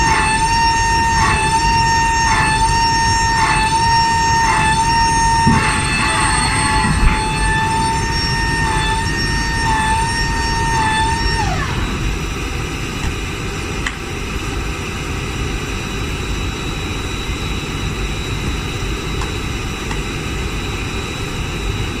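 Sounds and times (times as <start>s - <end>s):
airliner systems low rumble: 0.0s - 22.0s
hydraulic pump whine: 0.0s - 22.0s
thin high whine: 0.0s - 22.0s.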